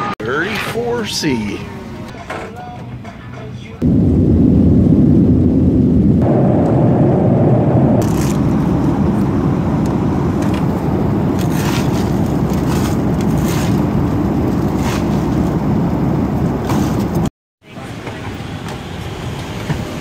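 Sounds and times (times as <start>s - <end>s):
engine and airflow rush: 3.8s - 20.0s.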